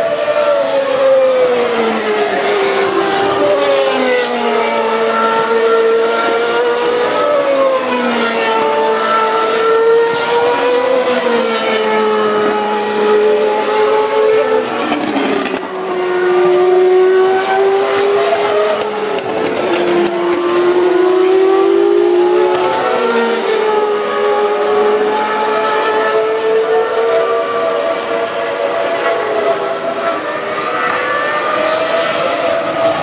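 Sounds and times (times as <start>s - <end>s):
race car engines at high revs: 0.0s - 33.0s.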